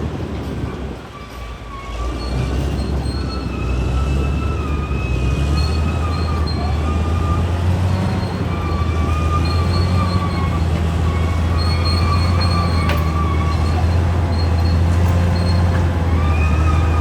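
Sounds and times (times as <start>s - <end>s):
bulldozer engine droning: 0.0s - 17.0s
steel tracks squealing: 0.0s - 17.0s.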